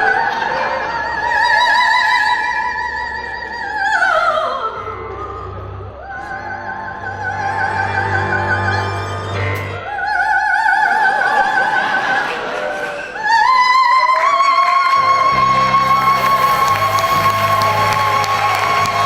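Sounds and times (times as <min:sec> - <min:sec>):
woman singing operatically: 0:00.0 - 0:08.9, 0:09.8 - 0:12.2, 0:13.2 - 0:19.0.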